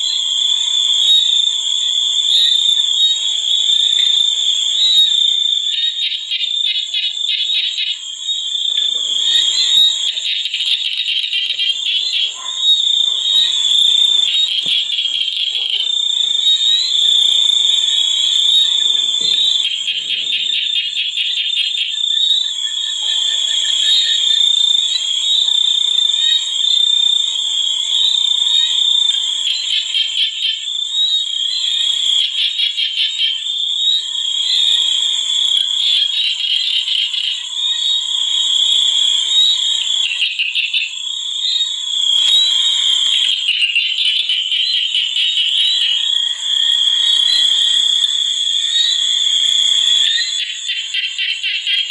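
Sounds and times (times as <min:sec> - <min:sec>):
chorus of shrill trilling animals: 0:00.0 - 0:51.9.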